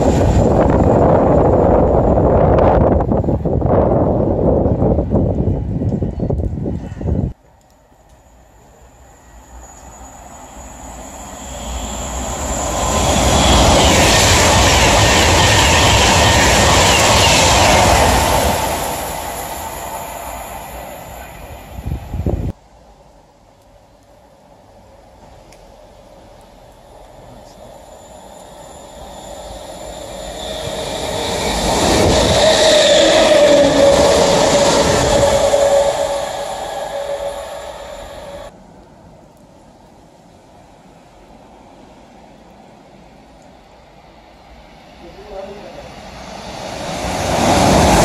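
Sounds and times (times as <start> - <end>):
electric train passing at speed: 0.0 - 48.0.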